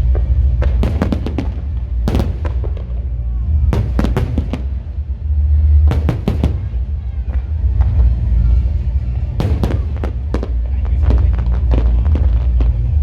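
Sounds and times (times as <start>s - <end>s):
fireworks banging: 0.0s - 13.0s
low rumble: 0.0s - 13.0s.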